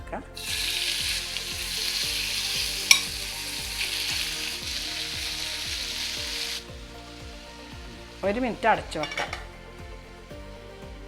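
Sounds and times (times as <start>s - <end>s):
chicken sizzling in oil: 0.4s - 9.5s.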